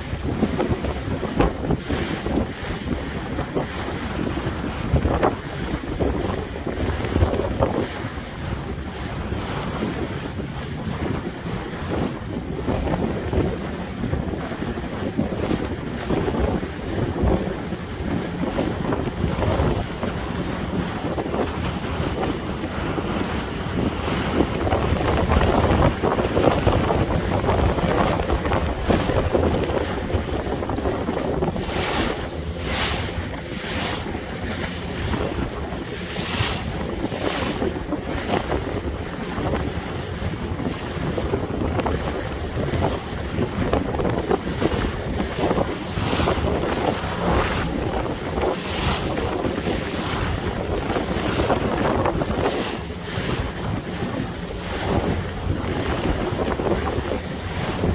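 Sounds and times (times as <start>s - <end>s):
water splashes: 0.0s - 57.9s
water washing along hull: 0.0s - 57.9s
wind buffeting microphone: 0.0s - 57.9s.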